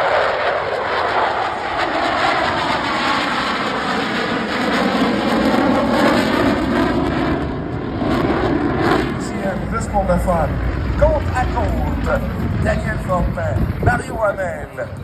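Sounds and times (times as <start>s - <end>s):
airplane flying past: 0.0s - 15.0s.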